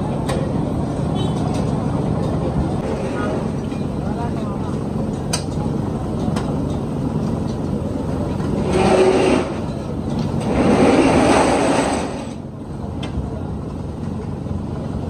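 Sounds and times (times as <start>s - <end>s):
loud vehicles passing: 0.0s - 15.0s
traffic rumble: 0.0s - 15.0s.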